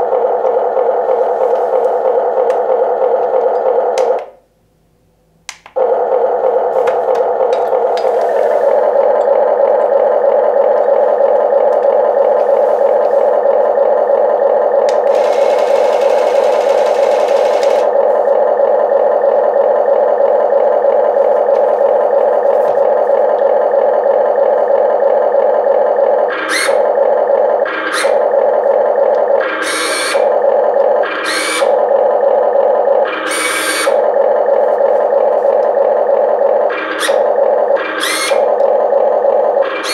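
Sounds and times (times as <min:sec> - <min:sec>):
simulated diesel engine running: 0:00.0 - 0:04.4, 0:05.6 - 0:39.9.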